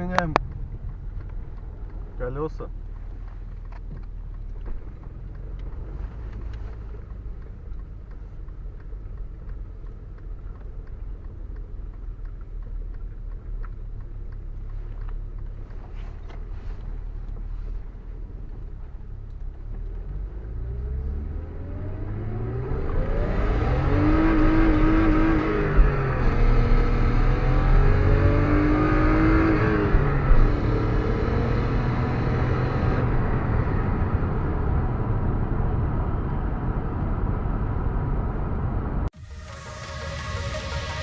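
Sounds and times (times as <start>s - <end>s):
car engine rumbling and revving: 0.0s - 41.0s.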